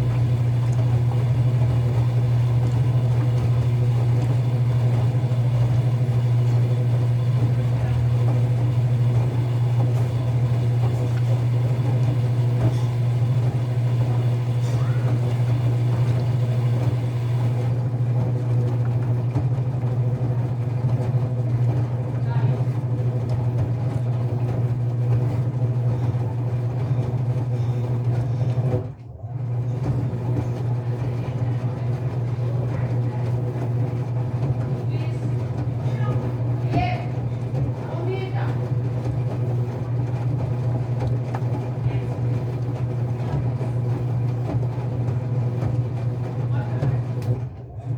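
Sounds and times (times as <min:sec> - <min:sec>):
washing machine motor hum: 0:00.0 - 0:47.9.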